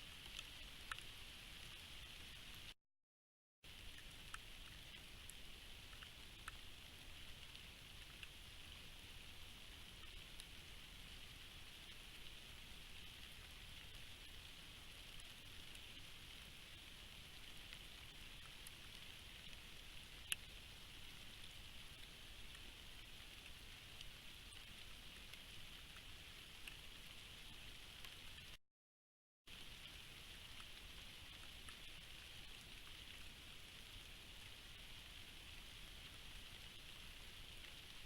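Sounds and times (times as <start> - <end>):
faint rain falling: 0.0 - 2.8, 3.6 - 28.6, 29.5 - 38.0.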